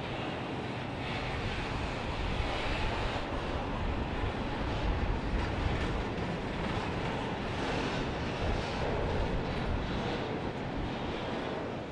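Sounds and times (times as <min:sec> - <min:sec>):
steel wheels rumbling on rail: 0:00.1 - 0:11.9.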